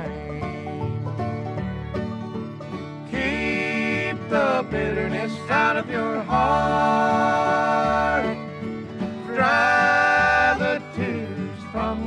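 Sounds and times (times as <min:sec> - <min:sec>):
string band backing: 0:00.0 - 0:12.0.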